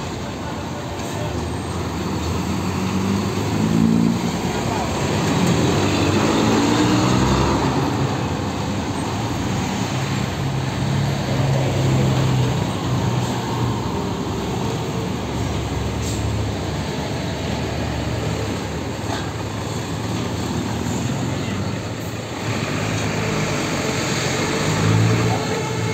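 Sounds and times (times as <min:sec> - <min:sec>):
bus engines droning: 0:00.0 - 0:25.9
road traffic noise: 0:00.0 - 0:25.9.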